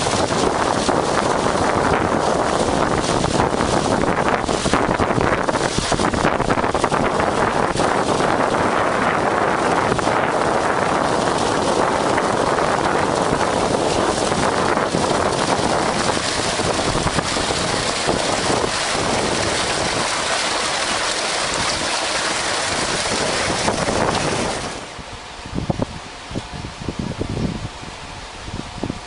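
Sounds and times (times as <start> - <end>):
loud steady rushing noise: 0.0 - 27.7.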